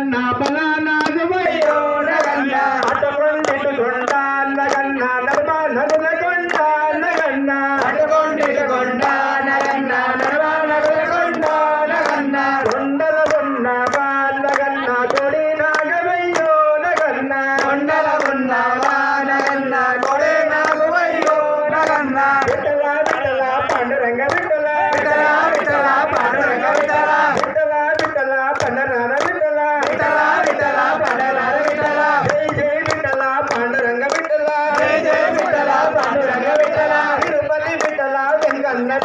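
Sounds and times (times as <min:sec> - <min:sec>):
person chanting into microphone: 0:00.0 - 0:39.0
steady beat of sharp clicks: 0:00.4 - 0:39.0.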